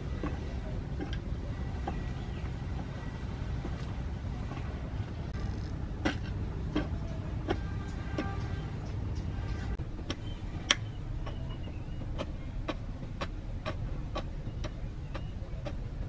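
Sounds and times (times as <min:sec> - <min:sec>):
low vehicle rumble: 0:00.0 - 0:16.0
regular ticking: 0:00.0 - 0:16.0.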